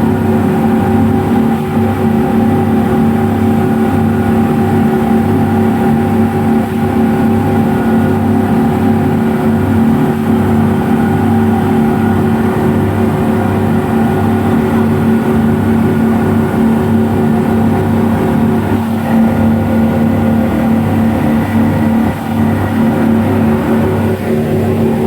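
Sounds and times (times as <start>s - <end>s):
speedboat engines droning: 0.0s - 25.0s.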